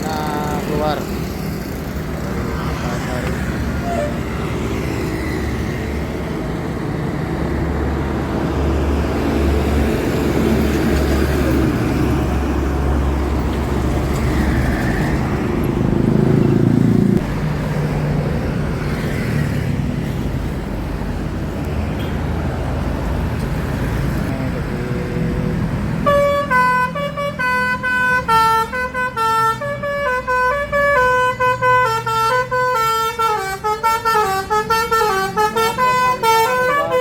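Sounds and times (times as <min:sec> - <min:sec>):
bus diesel engine rumble: 0:00.0 - 0:17.6, 0:19.7 - 0:37.0
road traffic: 0:00.0 - 0:37.0.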